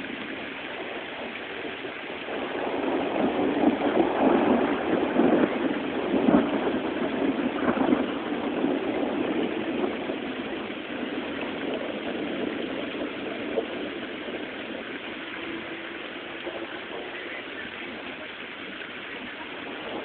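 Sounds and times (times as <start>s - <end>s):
rain hissing: 0.0s - 20.0s
thunder rumbling: 0.0s - 20.0s.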